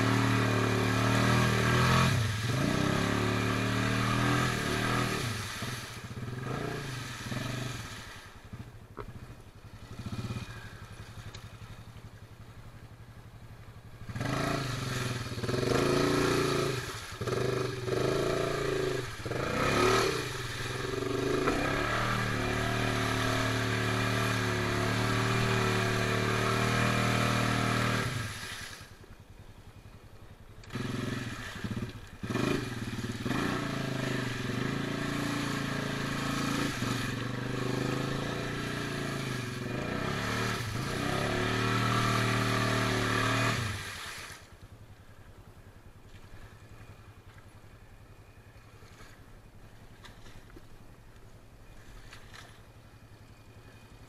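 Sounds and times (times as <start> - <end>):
atv engine revving: 0.0 - 29.0, 29.7 - 44.8.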